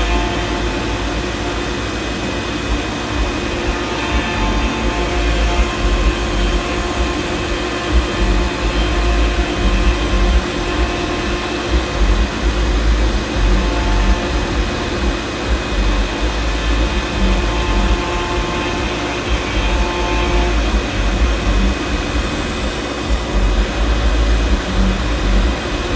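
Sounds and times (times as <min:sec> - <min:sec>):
constant rushing noise: 0:00.0 - 0:25.9
low rumble: 0:00.0 - 0:25.9
router spindle motor whine: 0:00.0 - 0:25.9.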